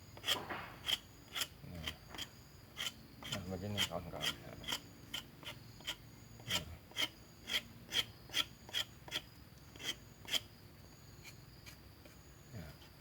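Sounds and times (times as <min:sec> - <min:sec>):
knife scraping bark: 0:00.0 - 0:13.0.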